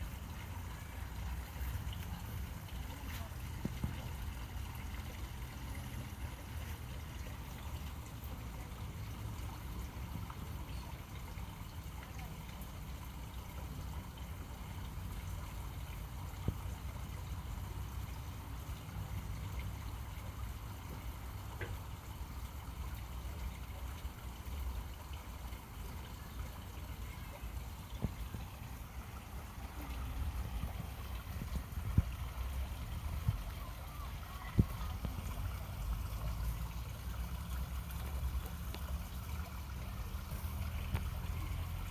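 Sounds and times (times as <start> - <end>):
faint trickle of water: 0.0 - 41.9.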